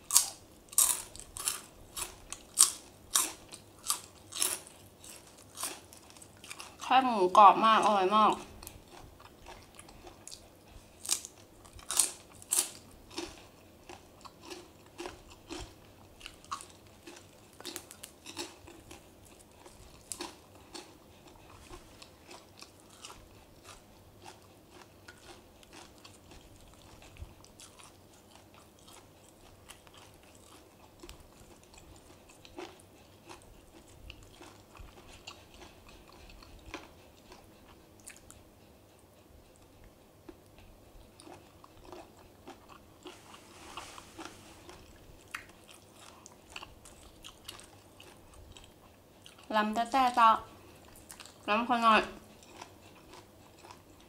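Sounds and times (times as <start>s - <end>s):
person chewing crunchy food: 0.0s - 49.5s, 50.4s - 51.5s, 52.2s - 54.0s.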